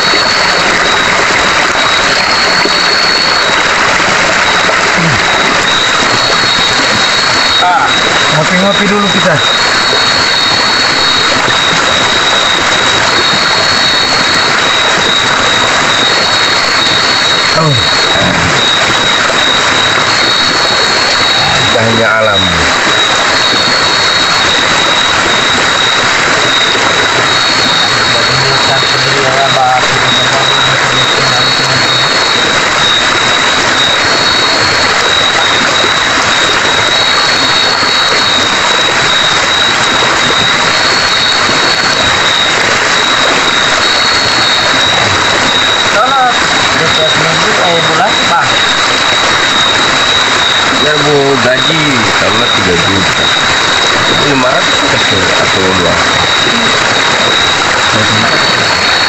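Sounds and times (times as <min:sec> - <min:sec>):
loud steady hiss: 0:00.0 - 0:59.0
night insects trilling: 0:05.0 - 0:59.0.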